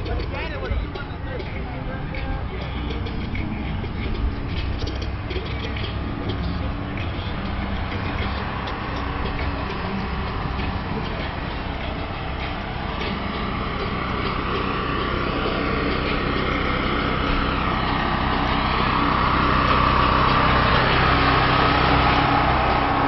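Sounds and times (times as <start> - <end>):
petrol generator running: 0.0 - 23.0.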